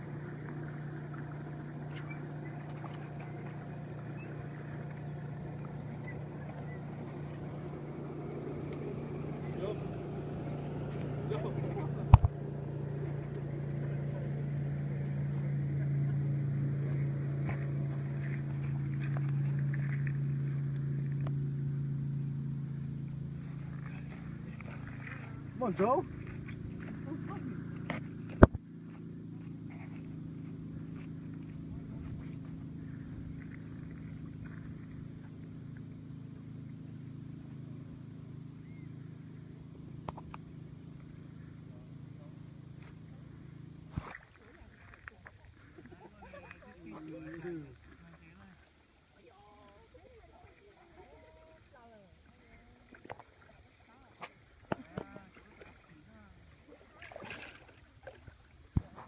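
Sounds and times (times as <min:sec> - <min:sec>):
engine humming steadily: 0:00.0 - 0:59.0.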